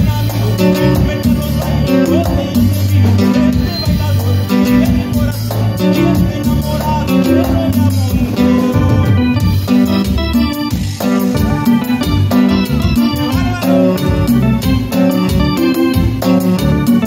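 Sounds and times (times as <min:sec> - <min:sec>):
drums: 0:00.0 - 0:17.0
electric bass: 0:00.0 - 0:17.0
guitars: 0:00.0 - 0:17.0.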